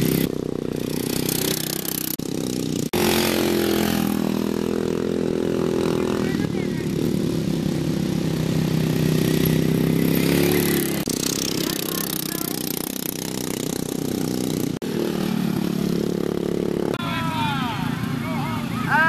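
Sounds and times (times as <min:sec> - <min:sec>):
lawn mower engines racing: 0:00.0 - 0:19.0.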